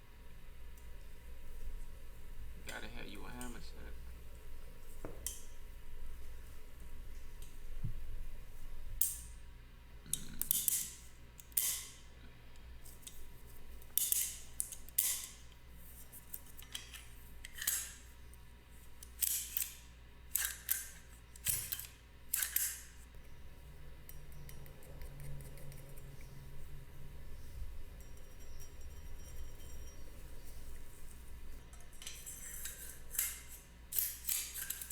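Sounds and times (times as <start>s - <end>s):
faint low hum: 0.0s - 20.2s, 20.9s - 34.9s.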